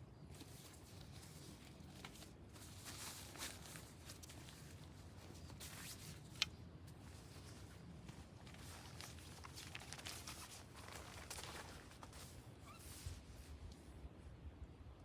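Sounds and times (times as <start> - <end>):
faint rustling and scraping: 0.2 - 14.1.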